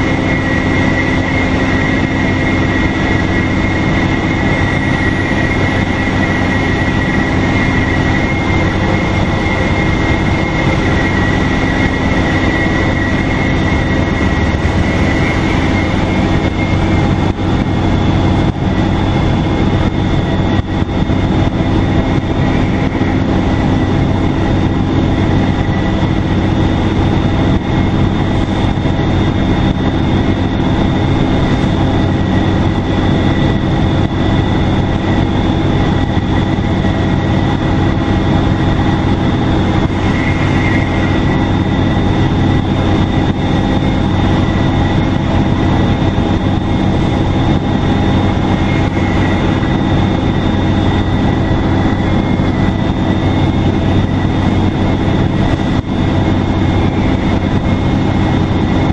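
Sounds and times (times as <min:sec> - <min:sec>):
bus engine with road rumble: 0:00.0 - 0:58.9
high turbo whistle: 0:00.0 - 0:58.9.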